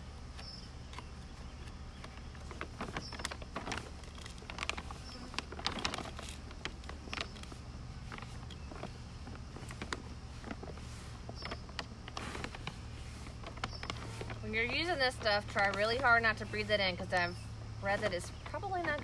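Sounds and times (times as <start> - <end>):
paper bag rustling and crinkling: 2.0 - 19.0
scrapes and light clicks: 2.0 - 19.0.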